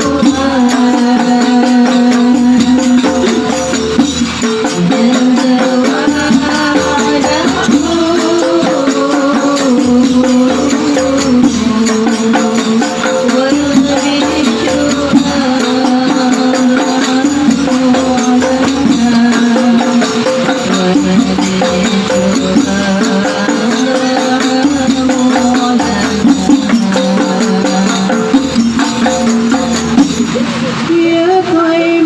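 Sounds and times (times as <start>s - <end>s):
jingling tambourine beats: 0.0s - 30.9s
devotional singing: 0.0s - 32.0s.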